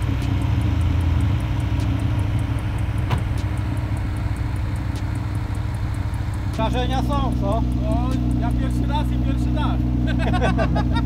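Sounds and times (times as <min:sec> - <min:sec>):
faint fast ticking: 0:00.0 - 0:10.3
car engine idling: 0:00.0 - 0:11.0.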